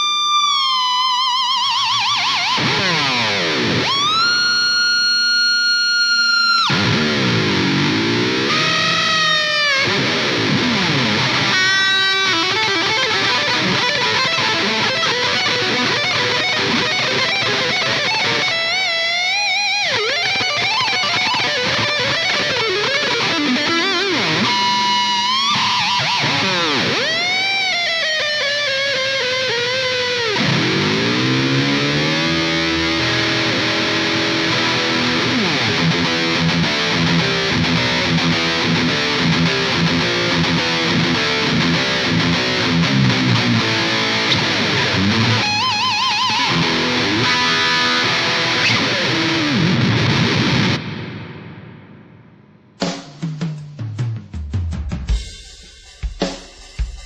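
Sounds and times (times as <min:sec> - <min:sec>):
distorted electric guitar solo: 0:00.0 - 0:52.8.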